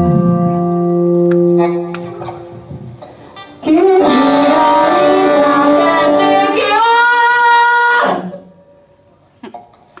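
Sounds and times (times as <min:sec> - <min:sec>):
live band playing sung music: 0:00.0 - 0:08.8.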